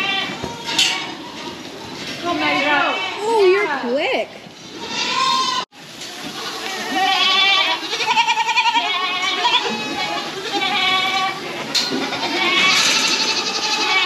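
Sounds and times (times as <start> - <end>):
goats bleating: 0.0 - 3.6, 4.6 - 14.0.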